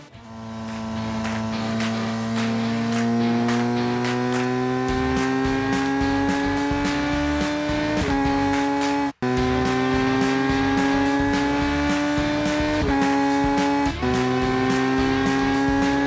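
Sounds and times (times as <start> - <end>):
background music with steady beat: 0.0 - 16.0
race car engine revving: 0.0 - 16.0.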